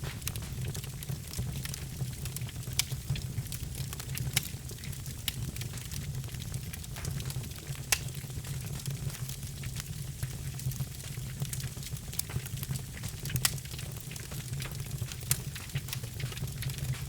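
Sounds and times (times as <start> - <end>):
fire rumbling: 0.0 - 17.0
logs crackling and popping: 0.0 - 17.0.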